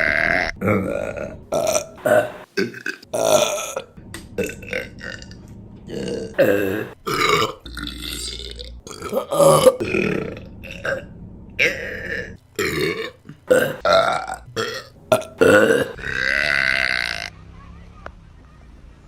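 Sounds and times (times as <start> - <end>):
woman burping: 0.0 - 17.3.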